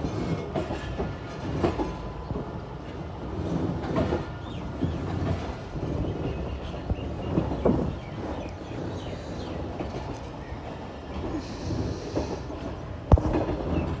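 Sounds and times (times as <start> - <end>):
train wheels clattering over rails: 0.0 - 14.0.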